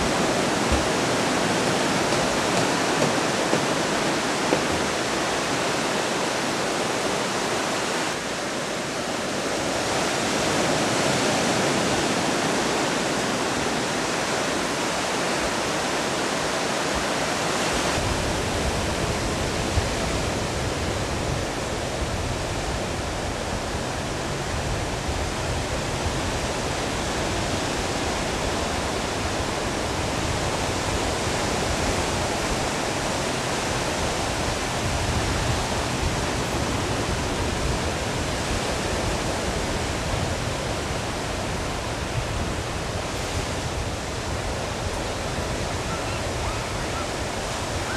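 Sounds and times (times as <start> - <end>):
ocean surf: 0.0 - 47.9
wind: 0.0 - 47.9.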